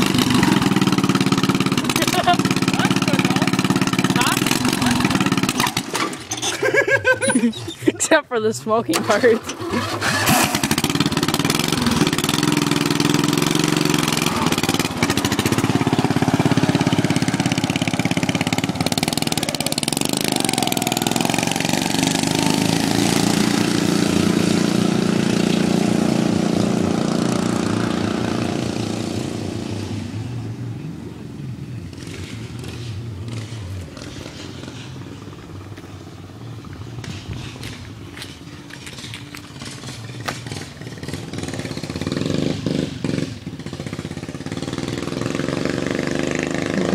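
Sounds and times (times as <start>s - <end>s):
lawn mower engine revving: 0.0s - 8.2s, 8.9s - 30.6s, 31.8s - 46.9s.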